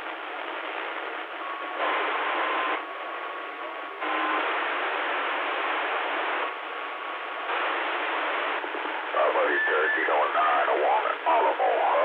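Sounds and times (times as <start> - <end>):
radio static hiss: 0.0 - 2.8, 4.0 - 12.0.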